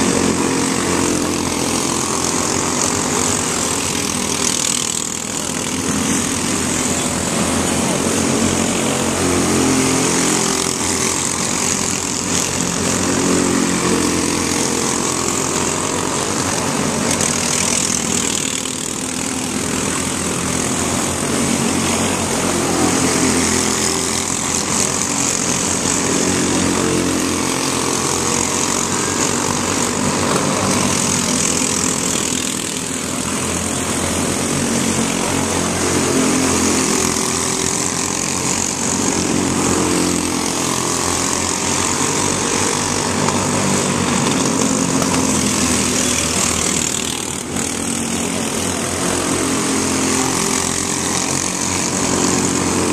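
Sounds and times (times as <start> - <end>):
race car engines running hard: 0.0 - 52.9.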